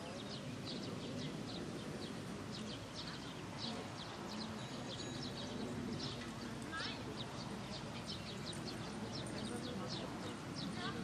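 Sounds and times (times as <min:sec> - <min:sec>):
low background murmur: 0:00.0 - 0:11.0
small birds chirping: 0:00.0 - 0:11.0.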